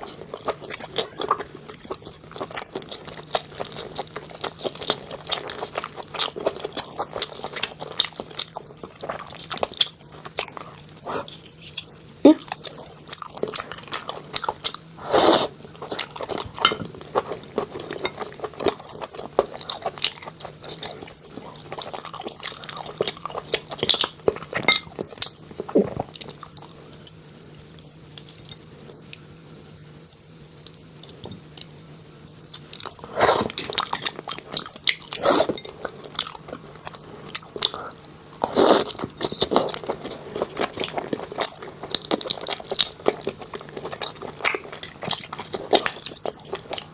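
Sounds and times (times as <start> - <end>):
person chewing food: 0.0 - 29.2, 32.5 - 46.9.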